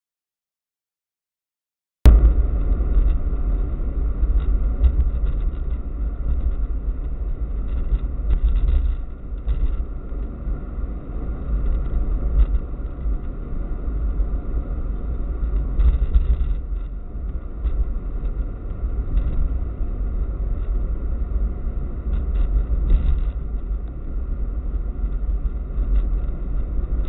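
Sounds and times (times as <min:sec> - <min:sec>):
car road and engine rumble: 0:02.1 - 0:27.0.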